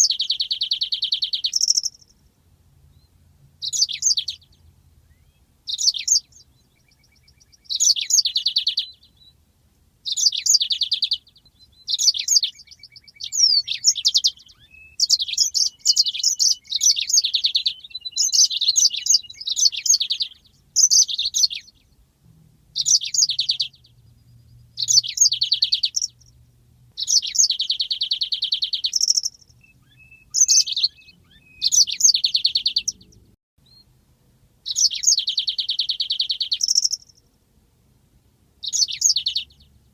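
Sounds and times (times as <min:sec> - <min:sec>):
canary singing trills: 0:00.0 - 0:09.4, 0:10.0 - 0:33.9, 0:34.6 - 0:37.3, 0:38.6 - 0:39.9.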